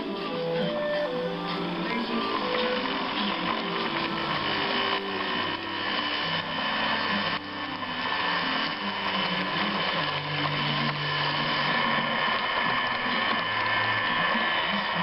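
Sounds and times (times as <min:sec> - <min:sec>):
model train motor whirring: 0:00.0 - 0:15.0.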